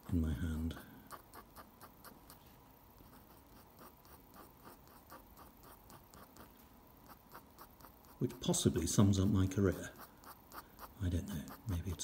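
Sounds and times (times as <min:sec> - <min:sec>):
pen nib scratching paper: 0:00.0 - 0:02.4, 0:03.0 - 0:12.0.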